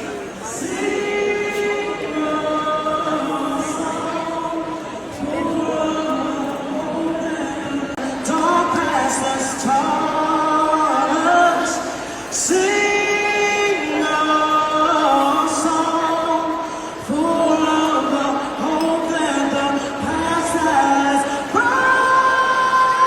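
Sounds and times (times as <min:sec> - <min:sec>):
music with singing voice: 0:00.0 - 0:23.0.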